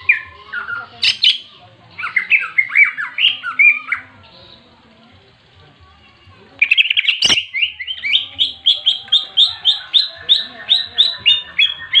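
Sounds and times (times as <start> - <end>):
bird chattering call: 0.0 - 4.7, 6.6 - 12.0.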